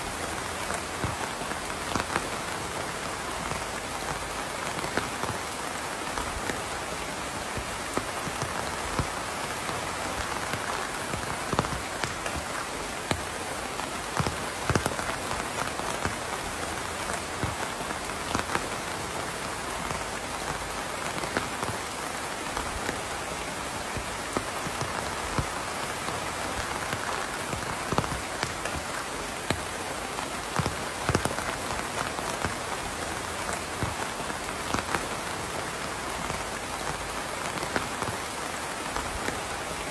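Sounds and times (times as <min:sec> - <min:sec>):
raindrops ticking close by: 0:00.0 - 0:39.9
steady rainfall: 0:00.0 - 0:39.9.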